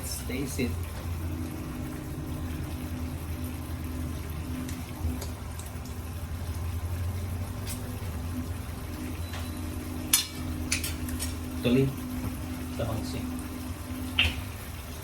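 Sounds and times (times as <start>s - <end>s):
constant low hum: 0.0s - 15.0s
sauce bubbling in a frying pan: 0.0s - 15.0s.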